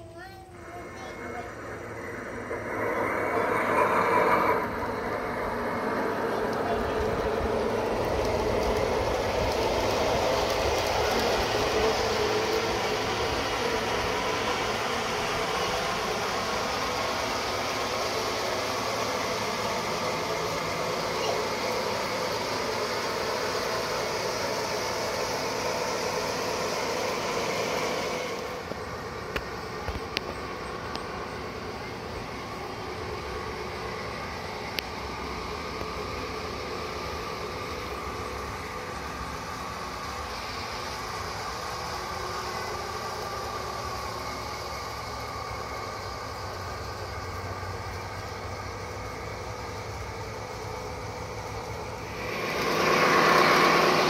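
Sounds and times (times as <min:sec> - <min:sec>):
model train wheels rolling: 0:00.0 - 0:54.0.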